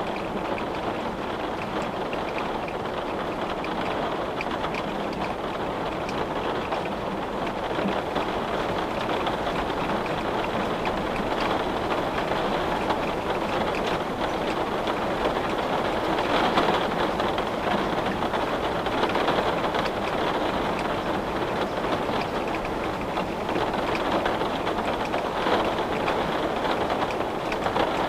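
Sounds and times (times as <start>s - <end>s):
rain on a window: 0.0s - 28.0s.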